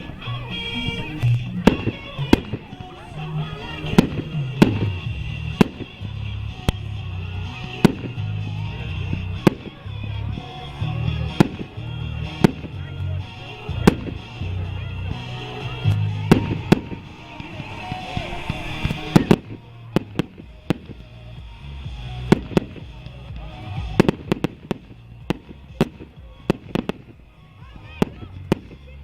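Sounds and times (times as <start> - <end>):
music with bass line: 0.0 - 29.0.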